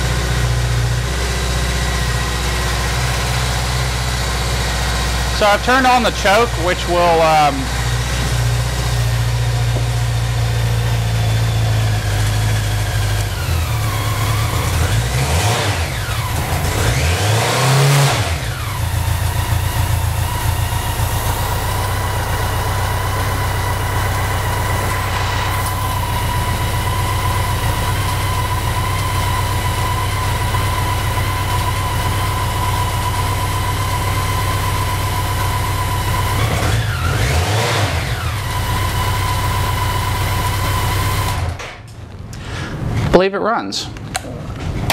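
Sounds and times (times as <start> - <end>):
motorcycle engine idling and revving: 0.0 - 42.1.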